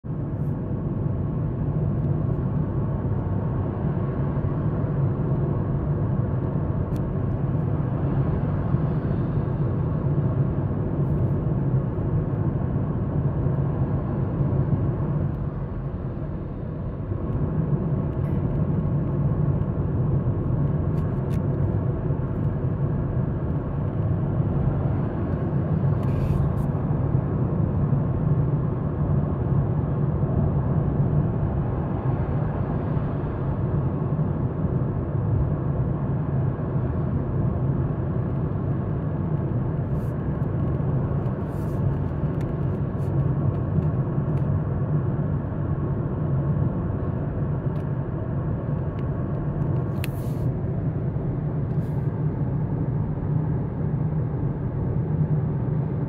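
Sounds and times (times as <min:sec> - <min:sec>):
in-cabin road and tyre noise: 0:00.0 - 0:56.0.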